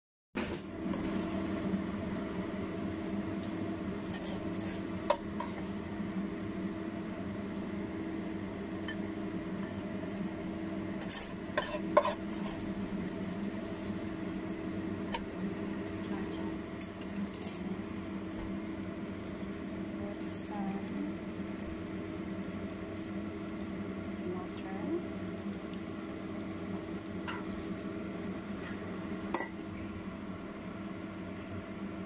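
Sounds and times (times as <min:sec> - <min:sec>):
steady low hum: 0:00.7 - 0:32.0.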